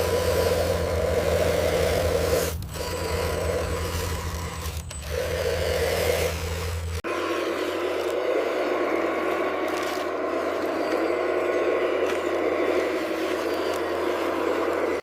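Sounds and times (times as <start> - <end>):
scraping noise: 0.0 - 15.0
small motor humming: 0.0 - 15.0.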